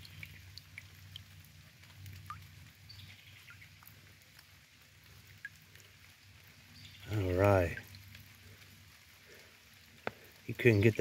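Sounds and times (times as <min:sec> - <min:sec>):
creek water running over rocks: 0:00.0 - 0:11.0
water drips and plinks: 0:00.0 - 0:11.0.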